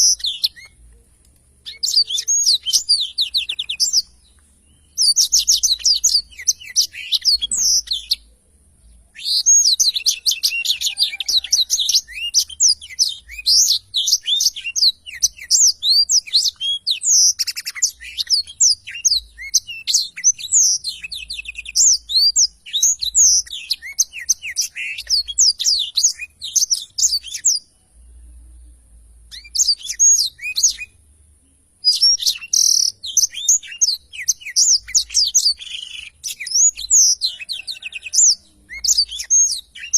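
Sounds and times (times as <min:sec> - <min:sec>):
bird twittering and trilling: 0:00.0 - 0:00.9, 0:01.6 - 0:28.5, 0:29.3 - 0:39.9.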